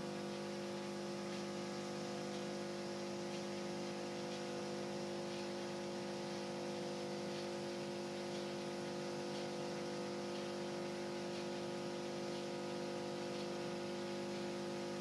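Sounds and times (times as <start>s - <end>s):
dishwasher drain pump humming: 0.0s - 15.0s.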